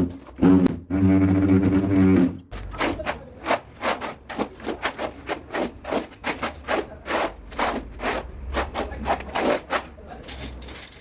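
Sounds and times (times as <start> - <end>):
rubbing on a hard surface: 0.1 - 10.0.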